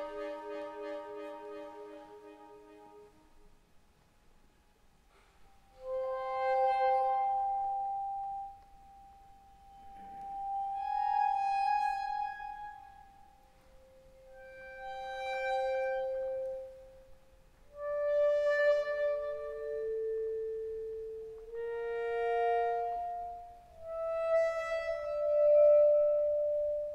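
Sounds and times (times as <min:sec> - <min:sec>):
accordion sustained notes: 0:00.0 - 0:03.7, 0:05.1 - 0:26.9.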